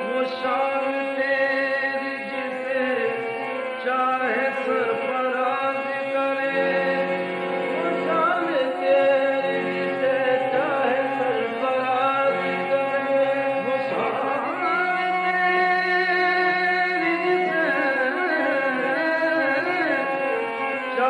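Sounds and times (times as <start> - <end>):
harmonium chords: 0.0 - 21.0
person singing ornamented phrases: 0.0 - 21.0.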